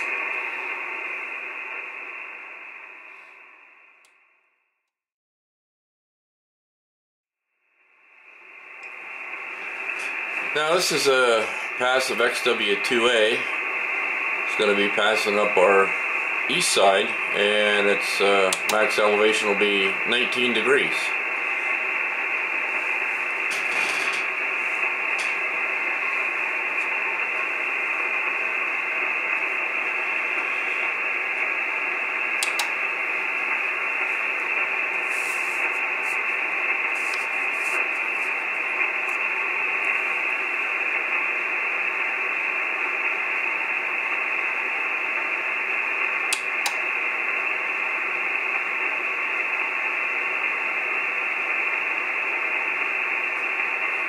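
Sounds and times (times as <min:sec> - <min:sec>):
radio receiver hiss: 0:00.0 - 0:04.3, 0:07.8 - 0:54.0.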